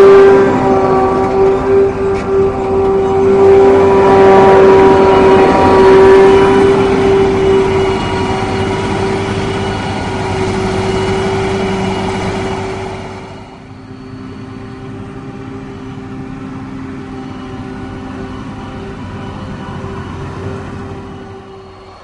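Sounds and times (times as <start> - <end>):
diesel engine drone: 0.0 - 22.0
machine whine: 0.0 - 22.0.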